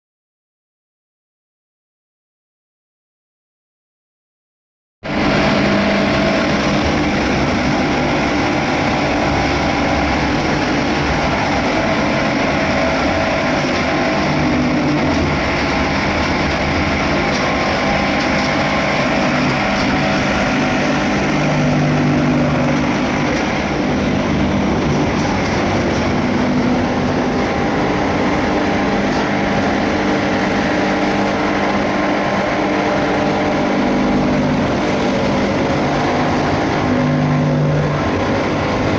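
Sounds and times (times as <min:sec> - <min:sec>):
cutting machine running: 0:05.0 - 0:38.9.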